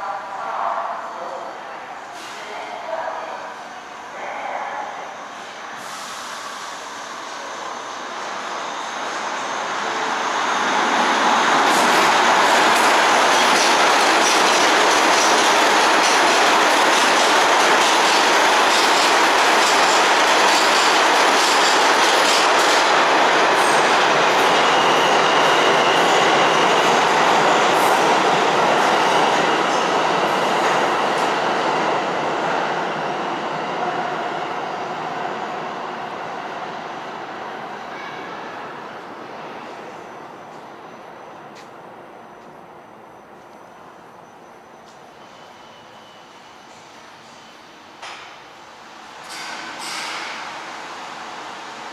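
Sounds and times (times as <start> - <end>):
subway train wheels clattering: 0.0 - 51.9.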